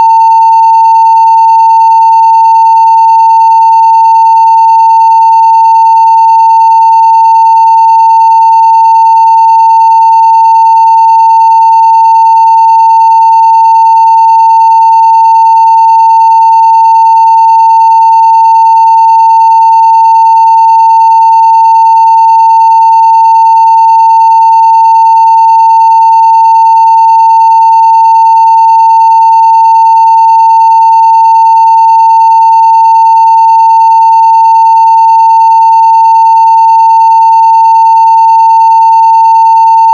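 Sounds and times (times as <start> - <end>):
sine wave test tone: 0.0 - 39.9.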